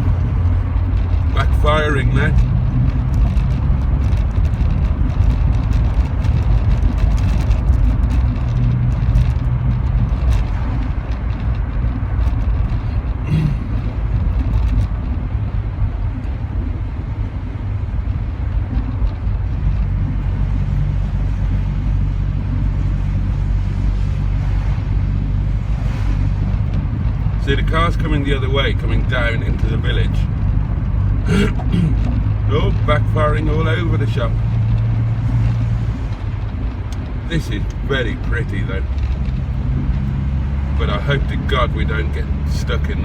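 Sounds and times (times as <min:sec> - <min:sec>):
car engine running rough: 0:00.0 - 0:43.0.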